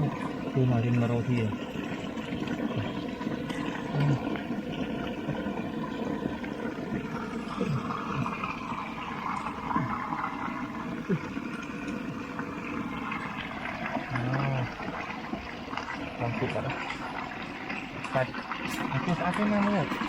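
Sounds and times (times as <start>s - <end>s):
running water gurgling: 0.0s - 20.0s.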